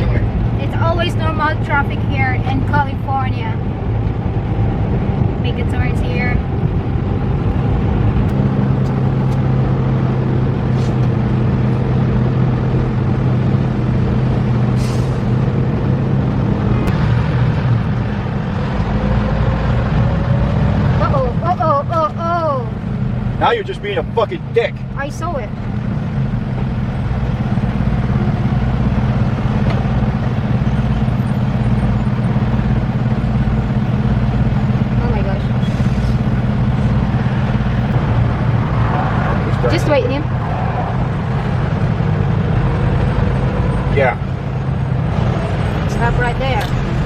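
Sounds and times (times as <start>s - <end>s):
diesel truck engine running: 0.0s - 47.0s
road rumble: 0.0s - 47.0s.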